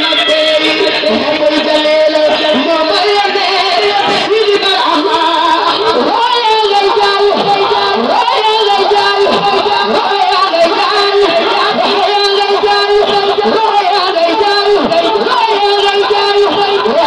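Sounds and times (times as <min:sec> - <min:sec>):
woman singing into a microphone: 0:00.0 - 0:17.0.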